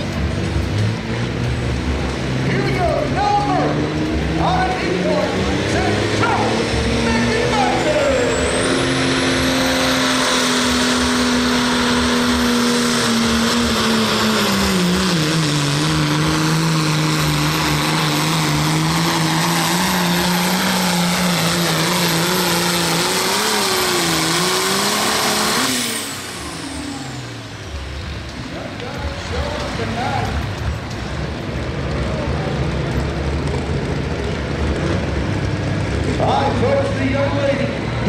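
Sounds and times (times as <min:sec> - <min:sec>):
tractor engine running flat out: 0:00.0 - 0:38.0.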